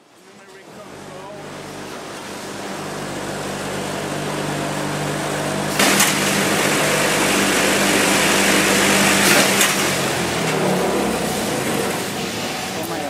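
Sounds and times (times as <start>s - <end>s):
factory machinery humming: 0.0s - 13.0s
loud hissing machine noise: 0.0s - 13.0s.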